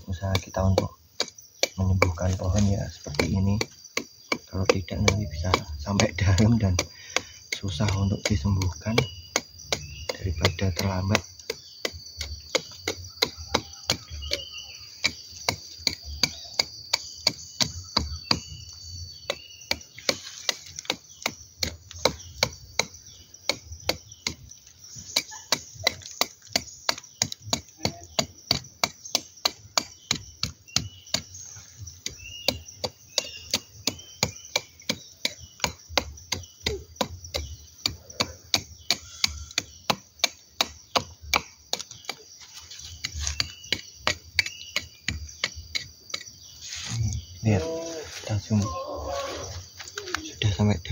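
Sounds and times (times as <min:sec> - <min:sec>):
knife chopping into tree bark: 0:00.3 - 0:31.4, 0:32.0 - 0:48.0.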